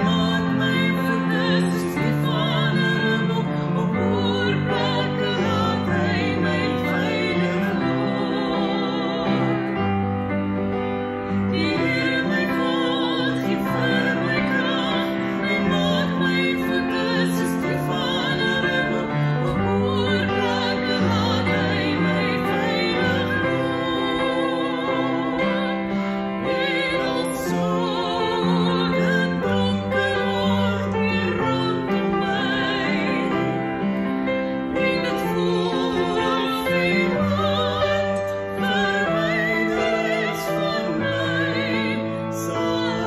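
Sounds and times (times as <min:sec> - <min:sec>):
man and woman singing: 0:00.0 - 0:09.9, 0:11.5 - 0:33.8, 0:34.7 - 0:43.0.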